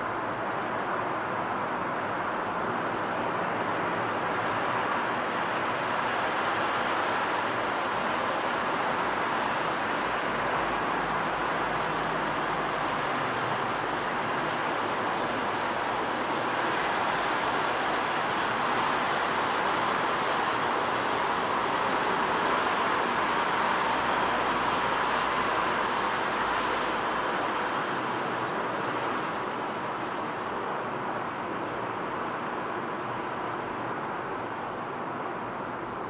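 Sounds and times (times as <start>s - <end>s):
distant traffic noise: 0.0s - 36.0s.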